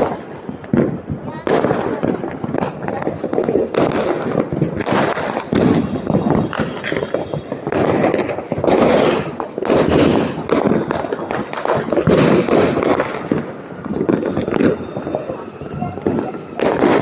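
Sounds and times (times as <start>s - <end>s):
firecrackers popping and banging: 0.0s - 17.0s.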